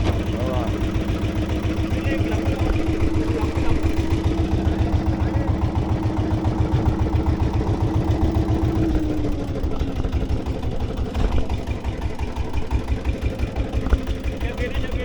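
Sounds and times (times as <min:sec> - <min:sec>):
engine running with low pulsing: 0:00.0 - 0:15.0.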